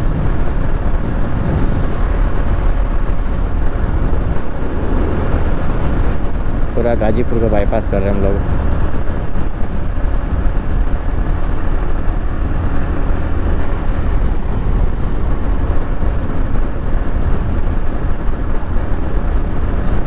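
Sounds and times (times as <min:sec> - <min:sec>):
motorcycle engine rumble: 0:00.0 - 0:20.0
road noise: 0:00.0 - 0:20.0.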